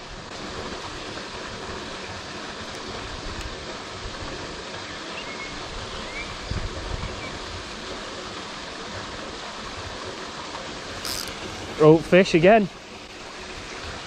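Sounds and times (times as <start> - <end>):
rain falling on water: 0.0 - 14.0.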